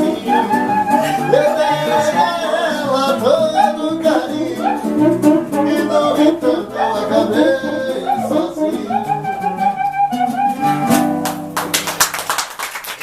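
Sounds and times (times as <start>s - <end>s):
pop song with guitar and bass: 0.0s - 11.2s.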